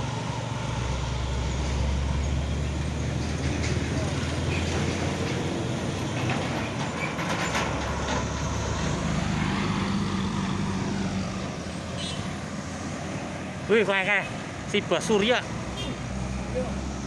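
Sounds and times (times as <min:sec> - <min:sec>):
low traffic engine drone: 0:00.0 - 0:17.0
vehicle passing with tyre noise: 0:00.0 - 0:17.0.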